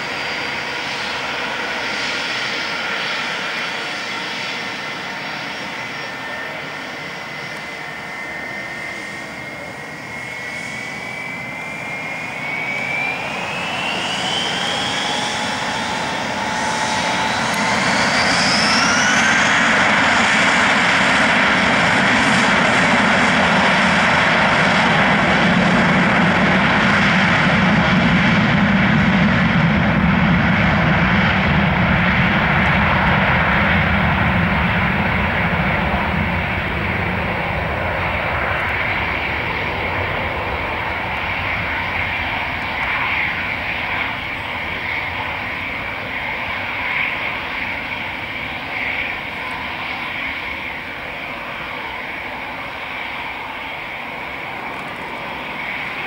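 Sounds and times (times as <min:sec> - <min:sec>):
jet engines spooling up: 0:00.0 - 0:56.0
jet roar of take-off: 0:00.0 - 0:56.0.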